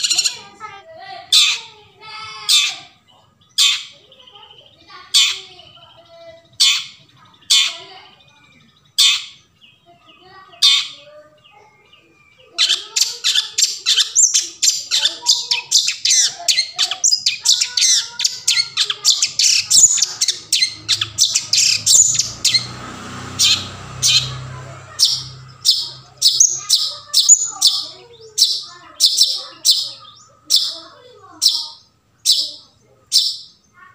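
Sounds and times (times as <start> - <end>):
shrike chattering song: 0.0 - 33.9
shrike harsh calls: 1.2 - 33.8.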